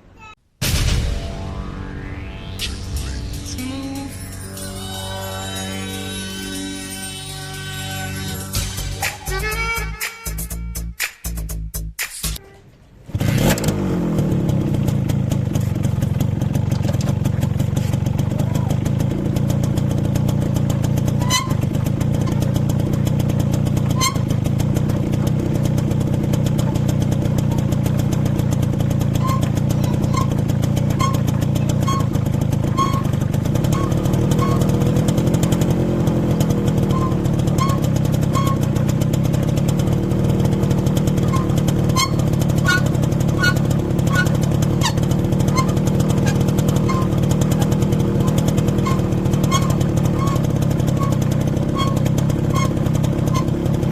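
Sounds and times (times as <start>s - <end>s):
small motorcycle engine running: 1.4s - 9.9s, 13.1s - 53.9s
drum brake squeaking: 1.4s - 11.0s, 20.2s - 53.9s.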